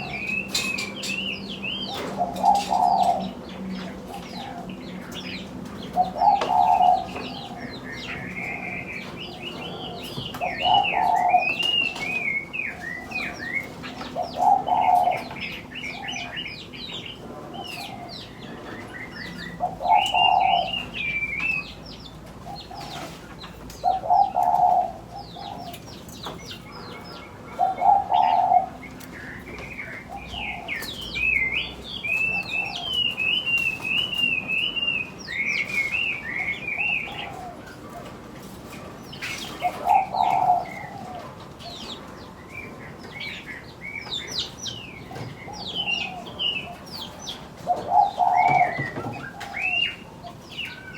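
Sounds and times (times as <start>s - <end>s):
dove cooing: 0.0s - 21.7s, 22.4s - 50.9s
songbirds chirping and warbling: 0.0s - 50.9s.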